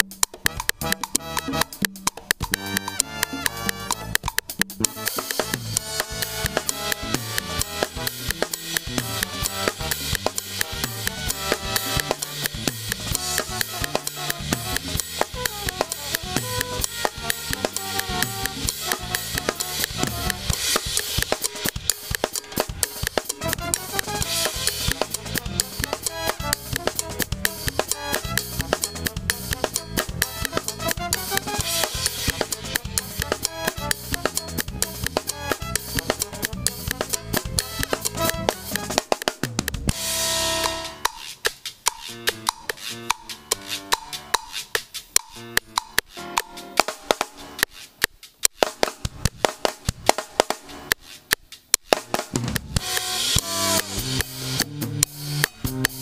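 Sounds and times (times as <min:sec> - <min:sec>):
drum kit playing steady groove: 0:00.0 - 0:56.0.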